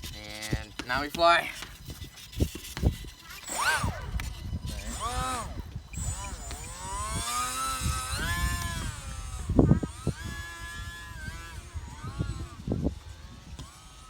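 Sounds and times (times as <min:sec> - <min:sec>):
rc airplane motor whining: 0:00.0 - 0:14.0
wind rumbling on microphone: 0:00.0 - 0:14.0.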